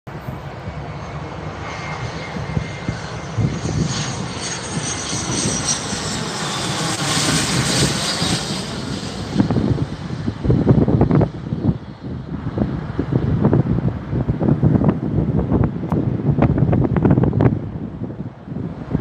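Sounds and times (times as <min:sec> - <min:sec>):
jet engine whine passing overhead: 0:00.1 - 0:19.0.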